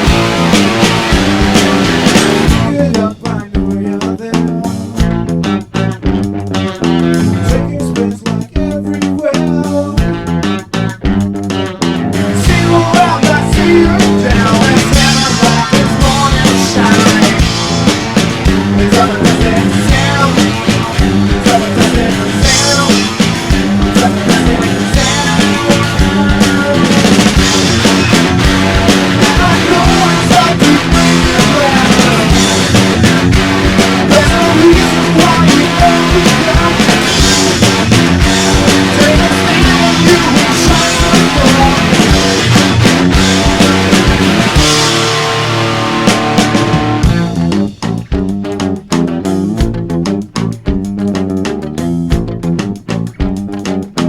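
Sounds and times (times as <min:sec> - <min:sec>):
drum kit beat: 0:00.0 - 0:54.0
electric guitar: 0:00.0 - 0:54.0
rock band music: 0:00.0 - 0:54.0.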